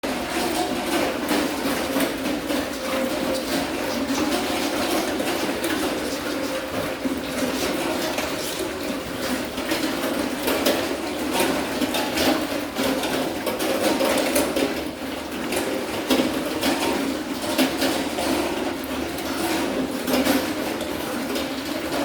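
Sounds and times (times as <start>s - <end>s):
pig chewing and smacking: 0.0s - 22.0s.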